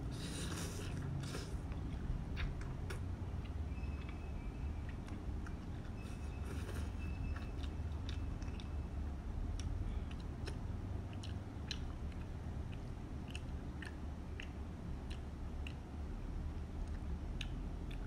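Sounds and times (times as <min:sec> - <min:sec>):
low steady hum: 0:00.0 - 0:18.0
wet chewing mouth sounds: 0:00.0 - 0:18.0.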